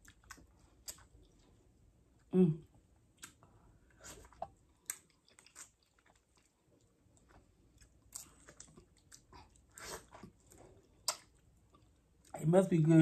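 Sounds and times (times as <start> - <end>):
wet mouth chewing sounds: 0.0 - 1.5, 3.2 - 12.4.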